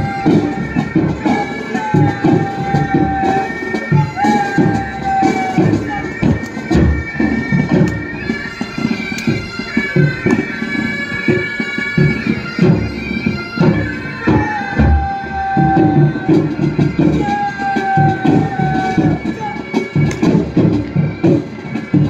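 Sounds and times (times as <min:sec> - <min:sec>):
bagpipes playing marching tune: 0:00.0 - 0:22.0
drum beats: 0:00.0 - 0:22.0.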